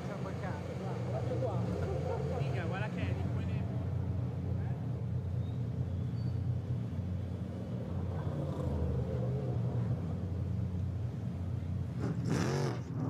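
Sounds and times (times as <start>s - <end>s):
race car engine low rumble: 0.0s - 13.0s.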